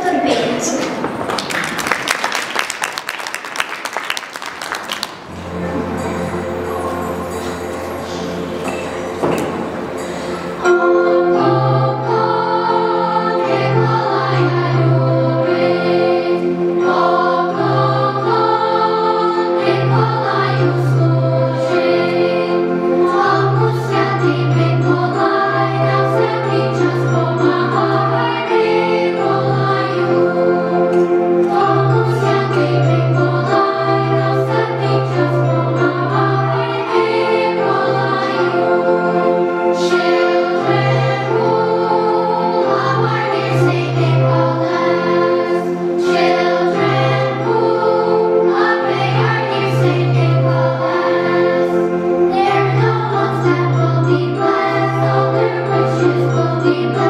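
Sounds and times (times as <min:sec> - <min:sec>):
children's choir singing a carol: 0:03.6 - 0:57.0.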